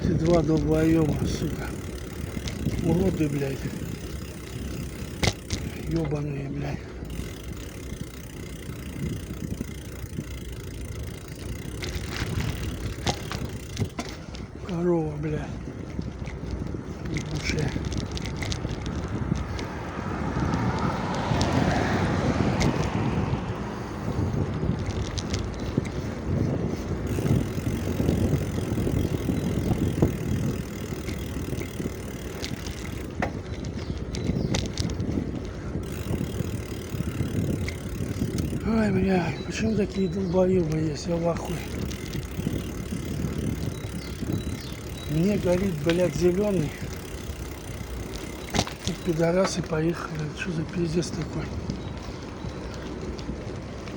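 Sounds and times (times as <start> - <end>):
road noise: 0.0 - 53.9
wind rumble: 0.0 - 53.9.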